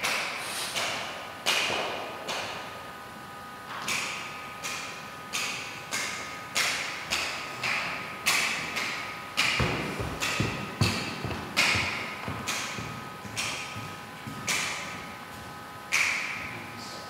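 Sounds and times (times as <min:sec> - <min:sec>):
hand claps in reverberant hall: 0:00.0 - 0:02.8, 0:03.8 - 0:16.6.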